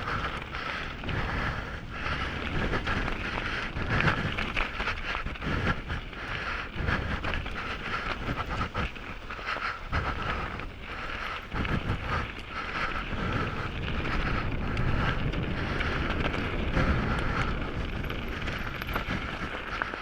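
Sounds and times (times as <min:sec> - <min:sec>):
bike rattling over rocks: 0:00.0 - 0:20.0
heavy breathing: 0:00.0 - 0:20.0
wind buffeting microphone: 0:00.0 - 0:20.0.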